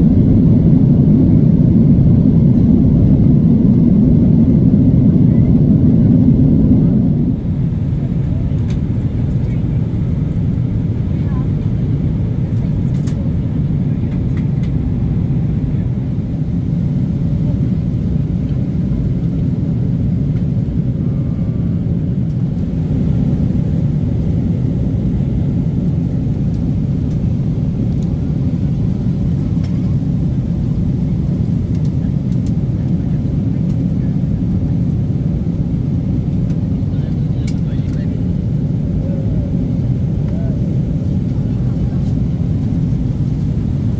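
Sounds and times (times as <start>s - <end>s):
airliner cabin rumble: 0.0s - 43.9s.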